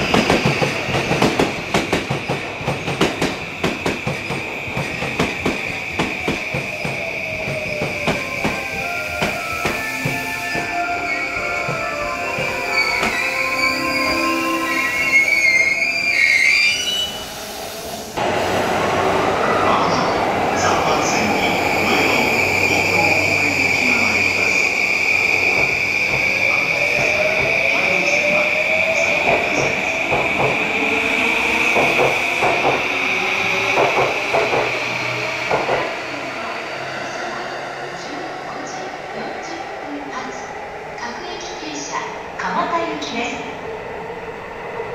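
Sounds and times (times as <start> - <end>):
train inverter whining: 0.0 - 43.8
station platform noise: 0.0 - 44.9.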